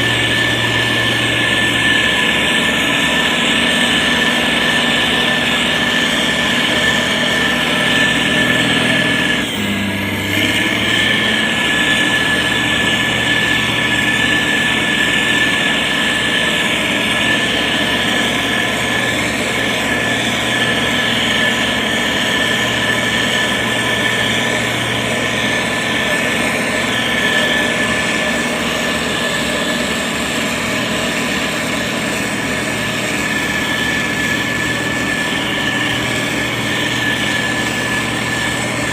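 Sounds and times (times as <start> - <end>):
constant whine: 0.0 - 38.9
diesel engine running: 0.0 - 38.9.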